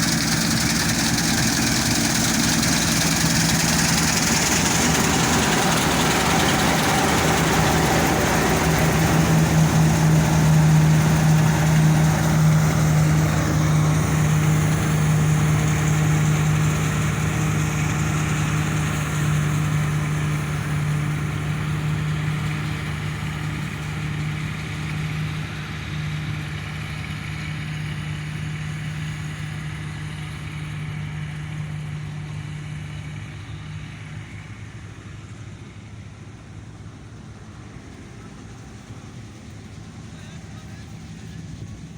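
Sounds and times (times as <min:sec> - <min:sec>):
combine harvester engine humming: 0:00.0 - 0:41.9.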